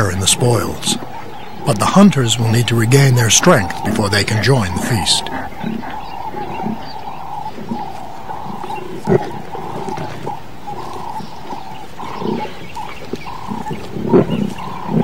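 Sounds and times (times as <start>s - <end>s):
lions growling and snarling: 0.0s - 15.0s.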